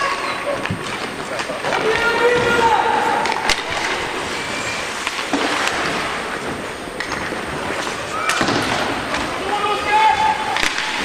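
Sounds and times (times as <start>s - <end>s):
steady rush of noise: 0.0s - 11.0s.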